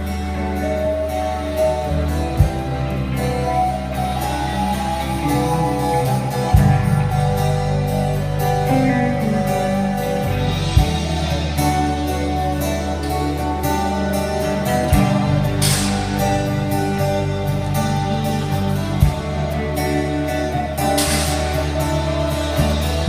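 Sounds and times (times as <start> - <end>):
guitar: 0.0 - 23.0
live band playing: 0.0 - 23.0.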